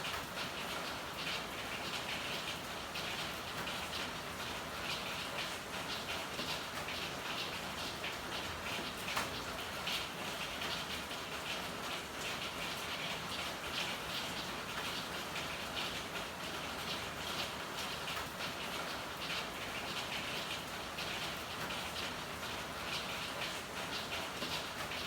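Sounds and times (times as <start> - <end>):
steady rain patter: 0.0 - 25.0.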